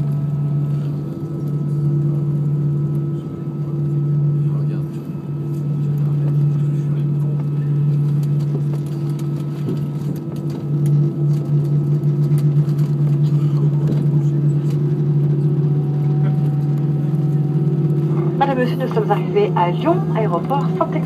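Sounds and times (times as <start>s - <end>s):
aircraft engines and rushing air: 0.0s - 21.0s.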